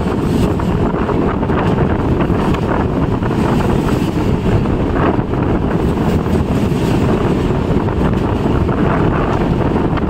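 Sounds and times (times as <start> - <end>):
train wheels rumbling on rail: 0.0 - 10.0
wind buffeting microphone: 0.0 - 10.0.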